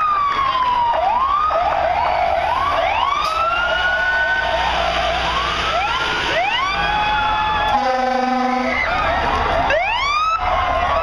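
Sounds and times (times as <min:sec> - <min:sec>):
fast yelping siren: 0:00.0 - 0:11.0
rising wailing siren: 0:00.0 - 0:11.0
truck engine rumble: 0:00.0 - 0:11.0.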